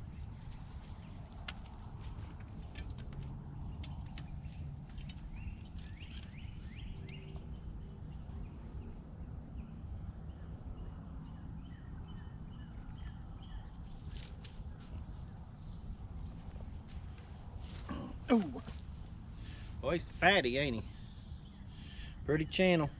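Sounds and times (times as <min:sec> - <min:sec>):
birds chirping: 0:00.0 - 0:22.9
low outdoor rumble: 0:00.0 - 0:22.9.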